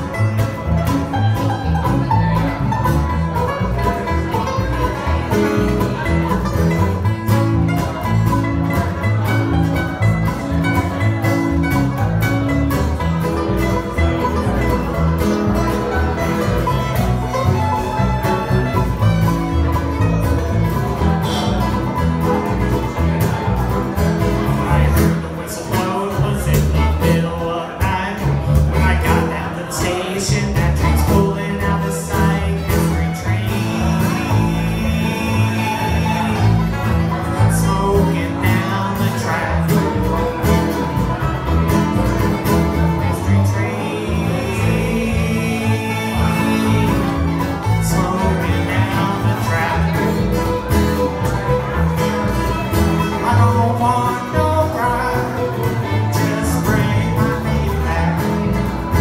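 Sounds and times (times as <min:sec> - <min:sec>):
acoustic guitar: 0:00.0 - 0:59.0
banjo: 0:00.0 - 0:59.0
fiddle: 0:00.0 - 0:59.0
upright bass: 0:00.0 - 0:59.0.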